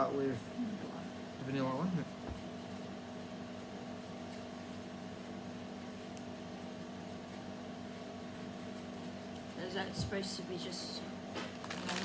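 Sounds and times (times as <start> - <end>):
mechanical room hum: 0.0 - 12.0.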